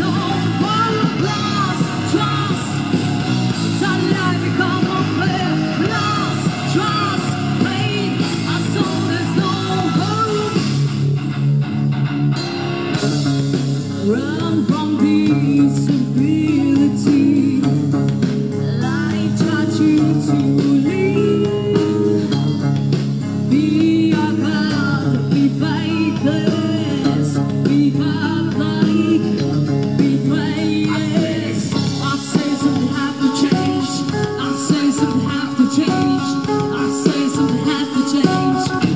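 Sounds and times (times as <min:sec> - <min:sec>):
person singing: 0:00.0 - 0:10.9, 0:12.4 - 0:38.9
rock band playing live: 0:00.0 - 0:38.9.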